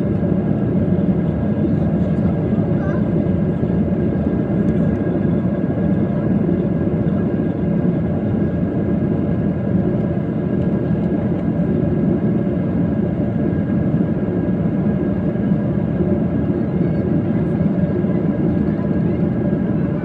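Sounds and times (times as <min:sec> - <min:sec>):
airplane engines running: 0:00.0 - 0:20.0.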